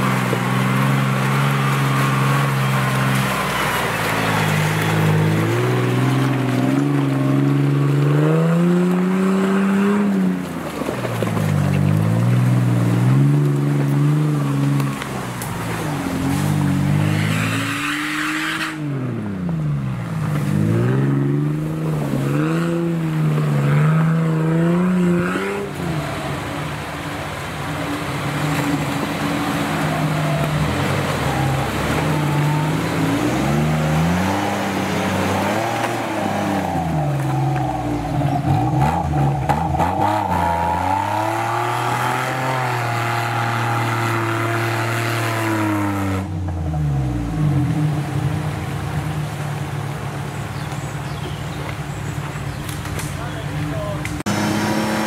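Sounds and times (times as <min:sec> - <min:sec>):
off-road engine revving: 0:00.0 - 0:55.0.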